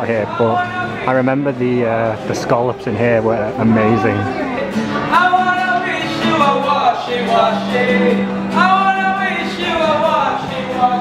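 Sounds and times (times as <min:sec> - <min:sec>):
man singing: 0:00.0 - 0:11.0
strummed acoustic guitar: 0:00.0 - 0:11.0.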